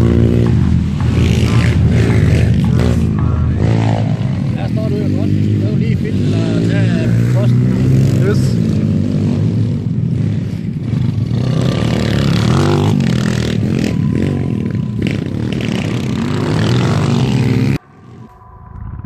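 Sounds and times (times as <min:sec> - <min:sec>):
dirt bike engines revving: 0:00.0 - 0:18.3.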